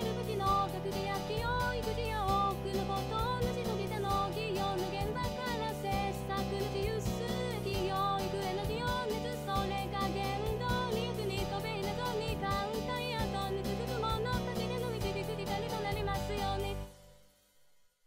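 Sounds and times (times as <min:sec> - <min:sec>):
pop song with beat and melody: 0:00.0 - 0:17.0.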